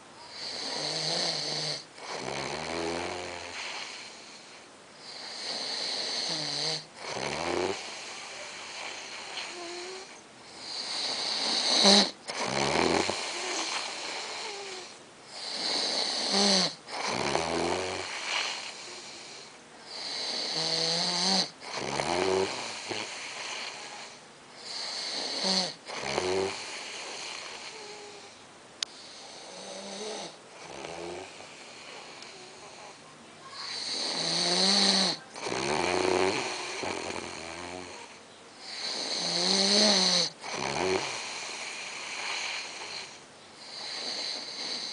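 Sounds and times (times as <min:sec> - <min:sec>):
man snoring: 0:00.3 - 0:28.3, 0:29.0 - 0:33.0, 0:33.7 - 0:44.9.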